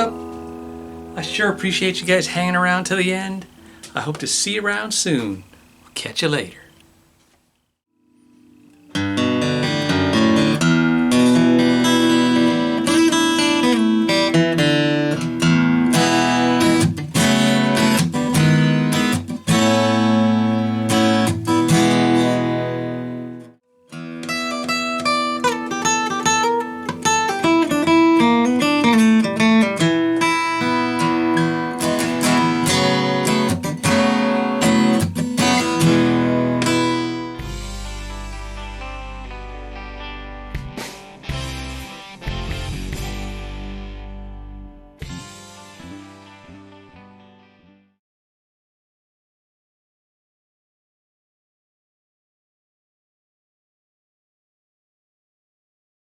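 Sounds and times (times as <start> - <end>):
acoustic guitar playing: 0.0 - 6.6, 7.9 - 48.0.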